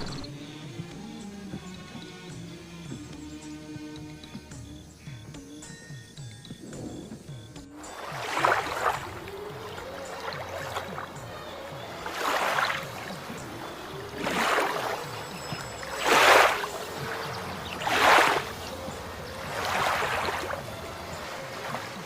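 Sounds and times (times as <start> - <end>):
water washing in and out: 0.0 - 4.6, 6.6 - 22.0.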